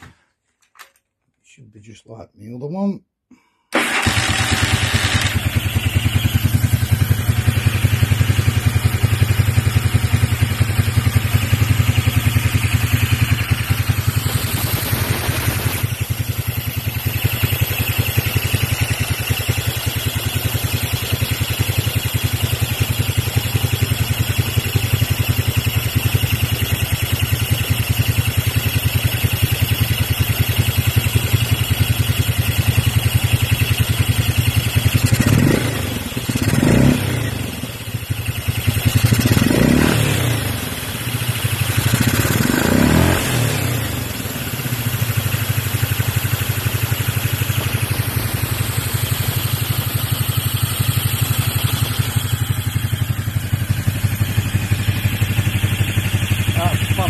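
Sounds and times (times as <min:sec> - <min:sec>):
motorcycle engine running: 0:03.8 - 0:57.0.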